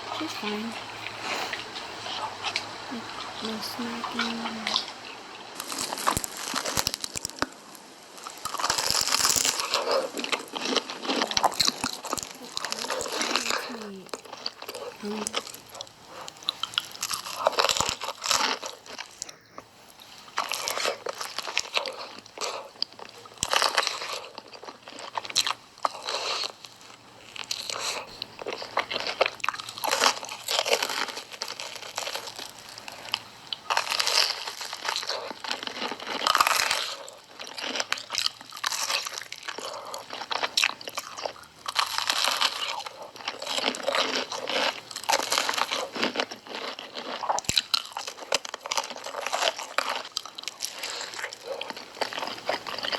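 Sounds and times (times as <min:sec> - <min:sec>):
snack crunching: 0:00.0 - 0:52.9.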